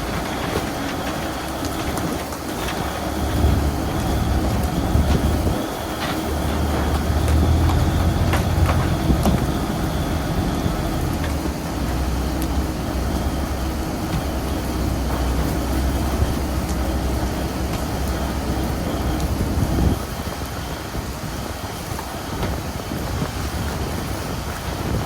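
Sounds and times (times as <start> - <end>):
boat engine running: 0.0 - 25.0
sea noise: 0.0 - 25.0
wind: 0.0 - 25.0.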